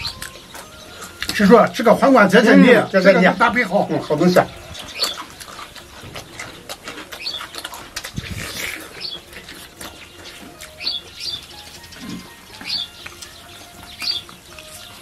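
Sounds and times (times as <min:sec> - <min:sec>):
chewing and lip smacking: 0:00.0 - 0:01.8, 0:04.0 - 0:15.0
bird chirps: 0:00.0 - 0:15.0.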